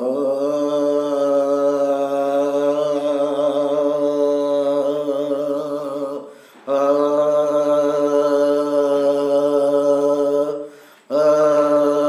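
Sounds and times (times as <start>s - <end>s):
man chanting a long steady tone: 0.0s - 12.0s.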